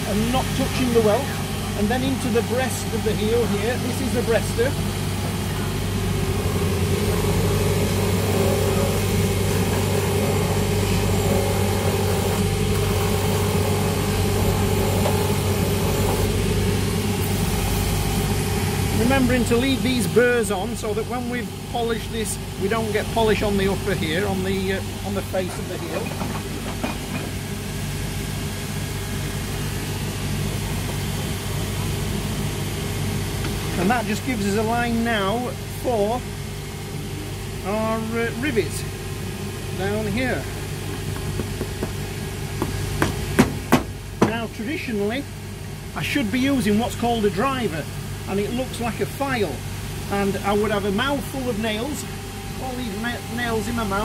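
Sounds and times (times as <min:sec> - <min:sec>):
machine motor running: 0:00.0 - 0:44.5.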